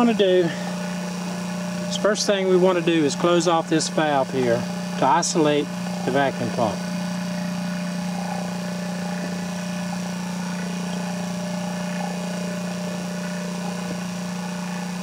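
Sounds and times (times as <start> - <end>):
vacuum pump humming: 0.0 - 15.0.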